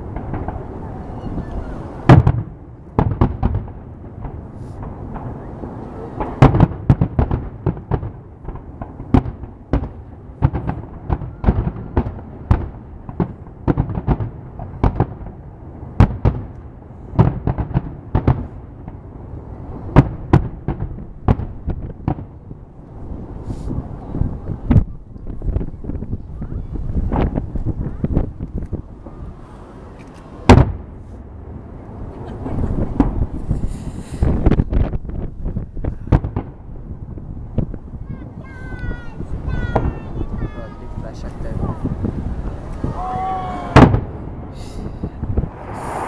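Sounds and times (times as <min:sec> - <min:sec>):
distant explosions rumbling: 0:00.0 - 0:46.0
fireworks sharp bangs: 0:00.0 - 0:46.0.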